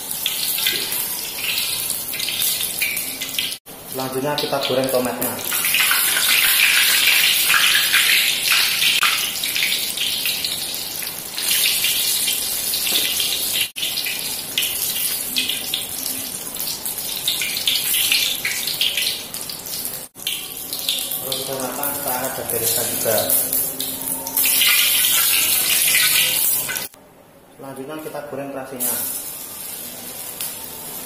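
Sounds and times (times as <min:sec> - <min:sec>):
oil sizzling and crackling: 0:00.0 - 0:27.0, 0:28.8 - 0:31.0.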